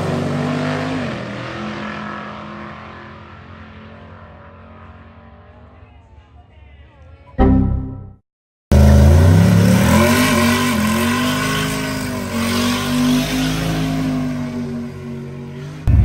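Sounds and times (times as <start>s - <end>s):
drag racing engine full throttle: 0.0s - 6.0s, 8.7s - 16.0s.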